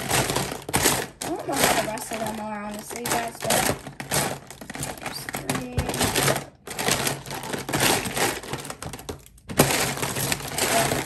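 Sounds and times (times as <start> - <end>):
plastic pens clattering together: 0.0 - 11.0.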